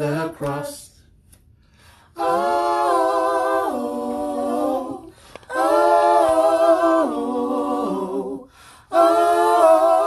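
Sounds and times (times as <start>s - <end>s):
vocal group singing a cappella: 0.0s - 1.1s, 1.8s - 10.0s.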